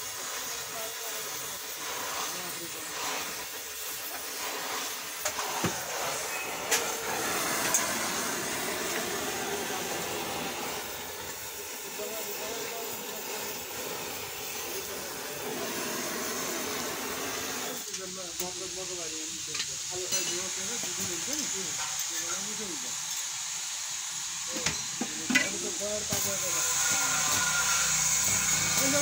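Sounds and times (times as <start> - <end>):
gas welding torch hissing: 0.0 - 29.0.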